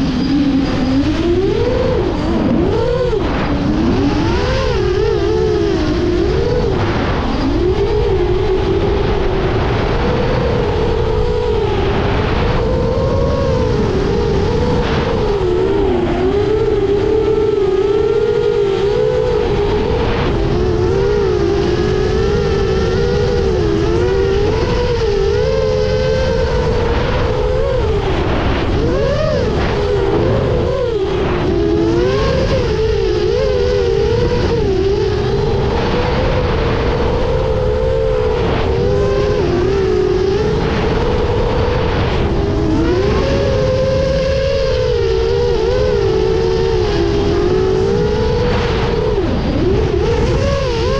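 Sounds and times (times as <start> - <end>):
drone motors buzzing: 0.0 - 50.9
rough wind-like rush: 0.0 - 50.9.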